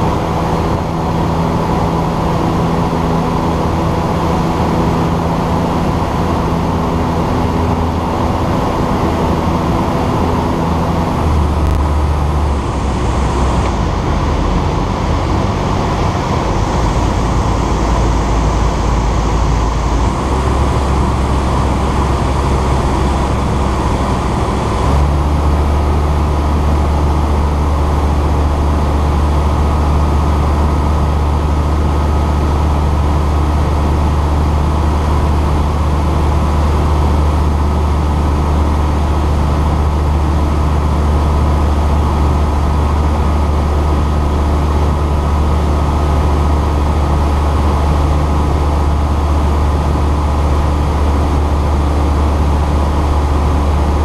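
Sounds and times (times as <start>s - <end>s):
aircraft engine and propeller droning: 0.0s - 54.0s.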